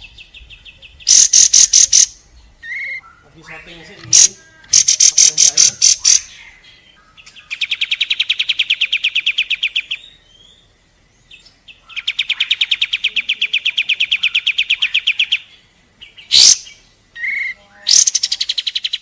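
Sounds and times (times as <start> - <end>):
bird singing rapid trill: 0.0 - 19.0
faint bird chirps: 0.0 - 19.0.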